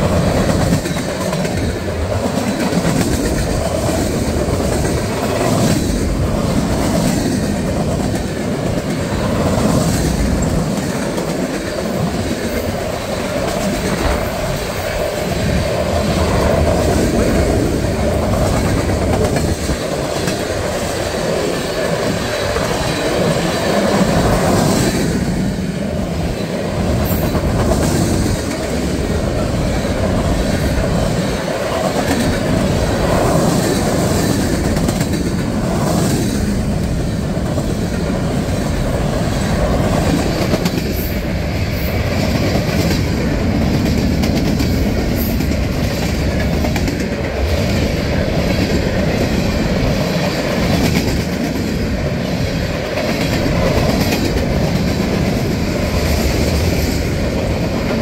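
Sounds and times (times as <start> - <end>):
steel wheels on rails: 0.0 - 58.0
wheels clicking over rail joints: 0.0 - 58.0.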